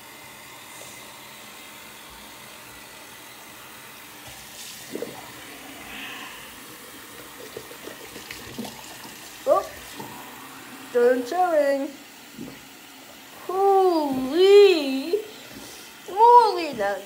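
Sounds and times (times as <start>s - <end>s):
faucet water running into sink: 3.2s - 17.0s.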